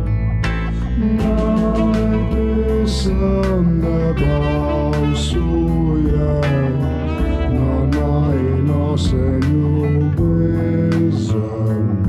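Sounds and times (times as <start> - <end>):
rock guitar: 0.0 - 12.0.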